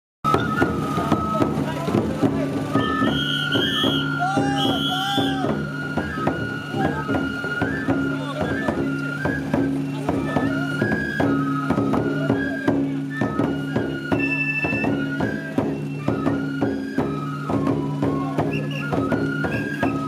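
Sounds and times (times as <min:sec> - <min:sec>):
high flute melody: 0:00.2 - 0:20.0
percussive beats: 0:00.2 - 0:20.0.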